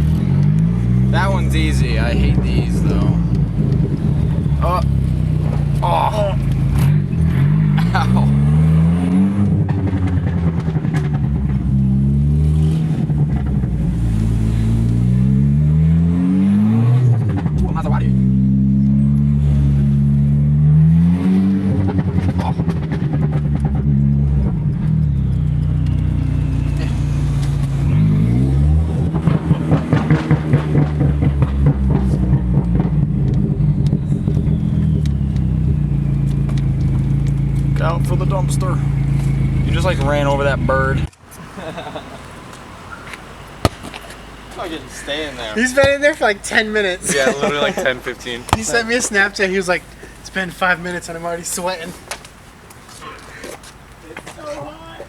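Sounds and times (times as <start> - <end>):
car engine accelerating: 0.0 - 53.1.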